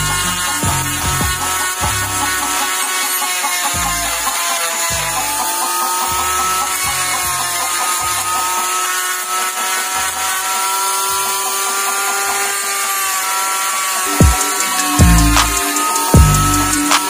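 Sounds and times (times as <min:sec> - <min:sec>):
rotary tool grinding wood: 0:00.0 - 0:17.0.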